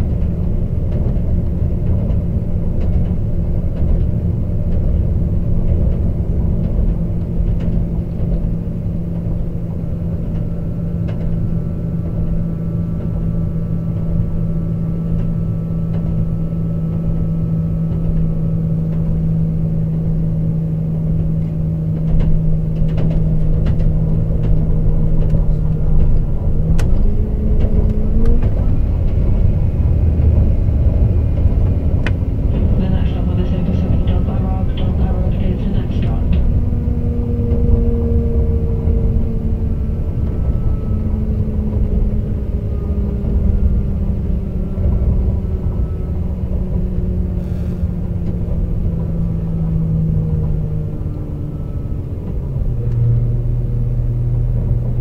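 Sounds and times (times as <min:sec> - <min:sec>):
diesel engine droning: 0:00.0 - 0:55.0
wheels rumbling on rails: 0:00.0 - 0:55.0.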